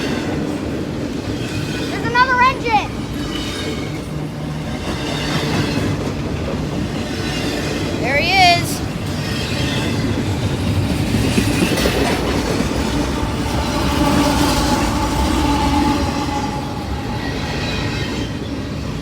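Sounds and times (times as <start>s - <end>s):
train cars clanking: 0.0s - 19.0s
train wheels rumbling on rail: 0.0s - 19.0s.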